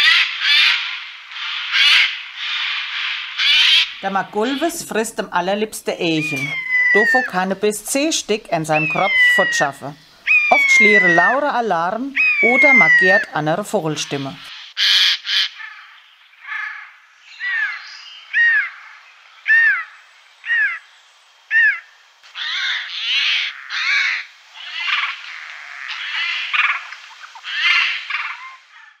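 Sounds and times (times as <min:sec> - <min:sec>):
jay calling: 0:00.0 - 0:20.9, 0:21.5 - 0:29.0.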